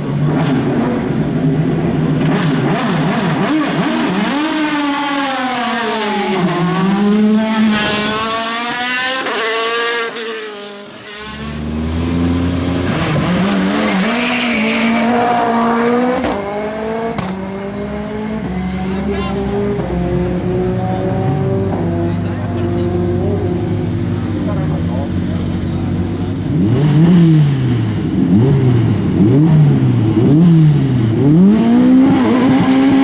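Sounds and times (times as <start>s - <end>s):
deep rumbling race car engine: 0.0s - 33.0s
race car engine revving: 0.0s - 33.0s.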